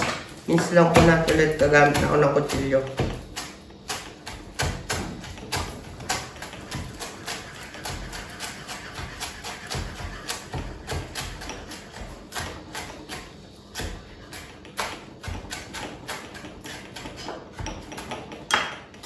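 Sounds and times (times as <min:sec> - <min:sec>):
knife chopping on wooden board: 0:00.0 - 0:18.8.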